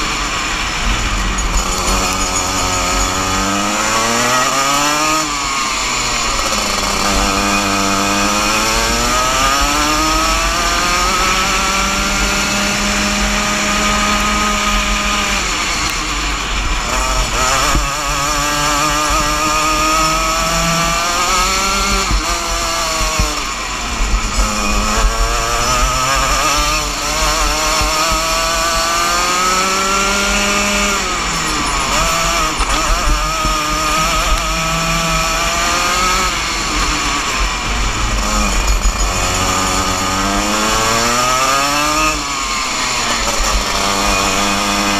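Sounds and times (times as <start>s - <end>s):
kart engine revving: 0.0s - 44.9s.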